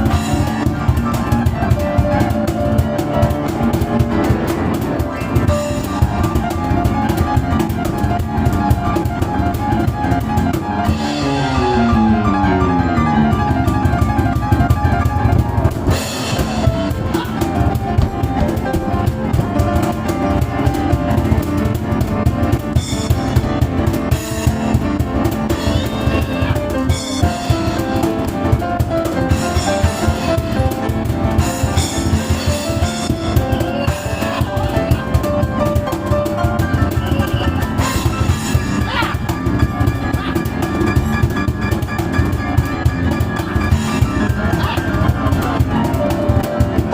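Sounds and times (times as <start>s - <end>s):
cajon beats: 0.0s - 46.9s
fast piano playing: 0.0s - 46.9s.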